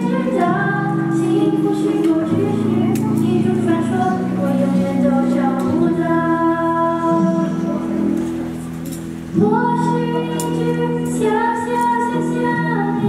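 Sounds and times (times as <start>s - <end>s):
youth choir singing: 0.0s - 8.3s, 9.4s - 13.0s.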